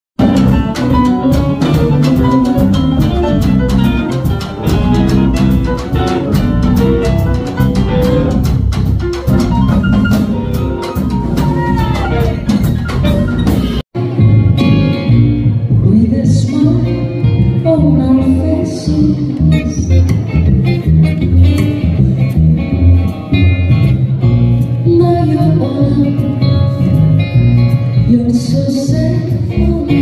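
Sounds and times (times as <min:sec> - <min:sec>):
jazz combo playing: 0:00.2 - 0:29.2.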